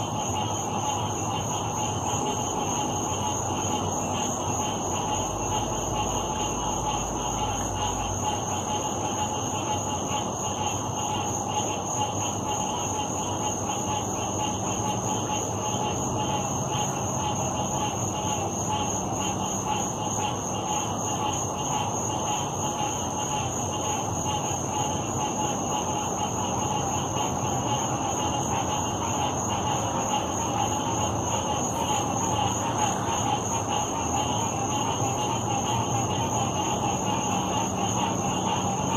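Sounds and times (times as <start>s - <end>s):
frogs chorus: 0.0s - 38.9s.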